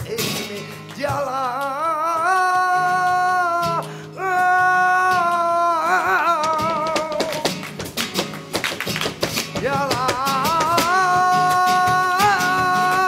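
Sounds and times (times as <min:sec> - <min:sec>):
man singing: 0:00.0 - 0:07.6, 0:09.4 - 0:13.0
dancer's footwork: 0:00.0 - 0:13.0
guitar: 0:00.0 - 0:13.0
hand-clapping: 0:00.0 - 0:13.0.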